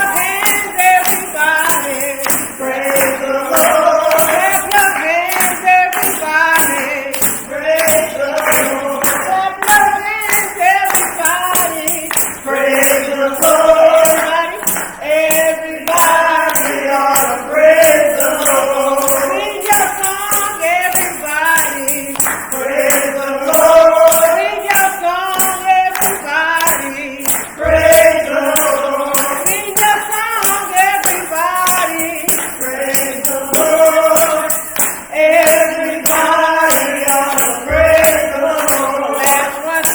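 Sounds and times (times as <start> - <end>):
tambourine shaken on a beat: 0.0 - 39.9
voices singing gospel: 0.0 - 39.9.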